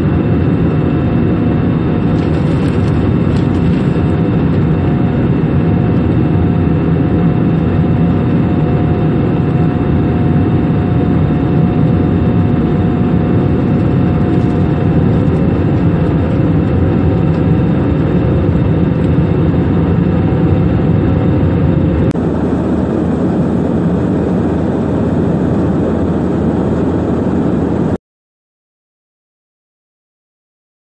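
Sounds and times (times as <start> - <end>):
aeroplane engines roaring: 0.0 - 28.0.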